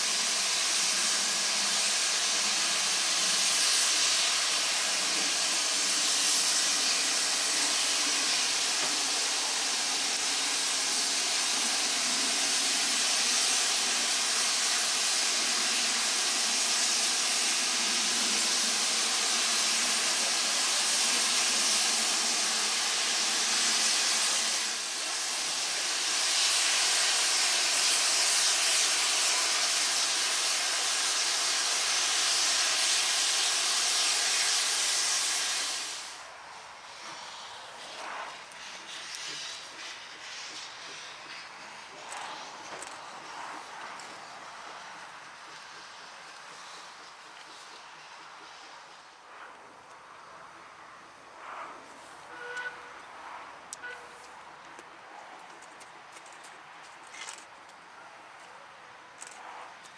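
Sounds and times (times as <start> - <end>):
steam hissing from safety valves: 0.0 - 54.4.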